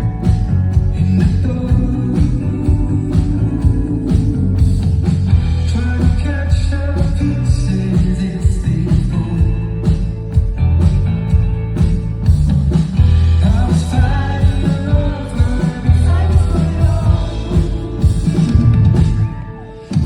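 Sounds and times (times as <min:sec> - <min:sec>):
live band with heavy bass: 0:00.0 - 0:20.0.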